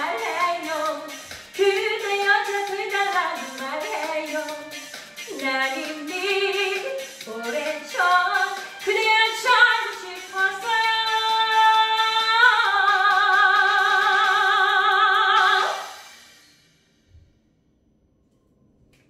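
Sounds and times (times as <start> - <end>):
woman singing: 0.0 - 15.9.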